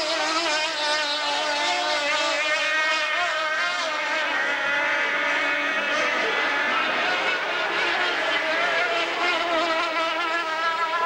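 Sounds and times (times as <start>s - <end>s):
powerboat engine whine: 0.0s - 11.0s.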